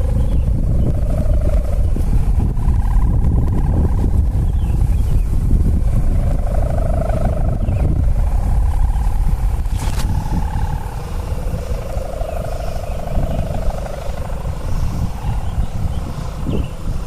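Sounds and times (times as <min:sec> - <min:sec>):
kite hummer droning in wind: 0:00.0 - 0:17.0
wind rumble on microphone: 0:00.0 - 0:17.0.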